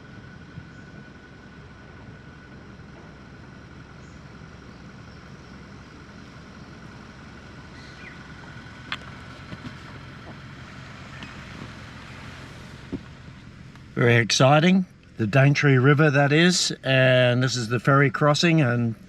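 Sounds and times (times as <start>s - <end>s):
vehicle engine rumble: 0.0s - 19.0s.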